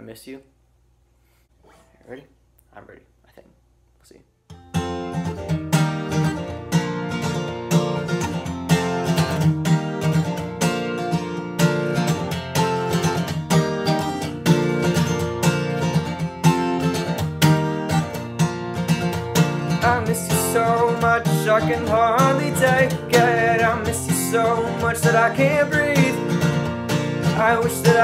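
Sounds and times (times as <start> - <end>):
acoustic guitar strumming: 4.5 - 28.0.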